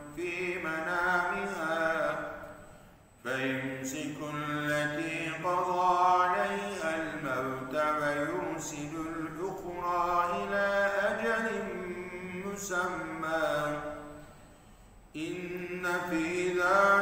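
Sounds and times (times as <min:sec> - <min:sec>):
man chanting recitation: 0:00.0 - 0:02.6, 0:03.2 - 0:14.3, 0:15.1 - 0:17.0.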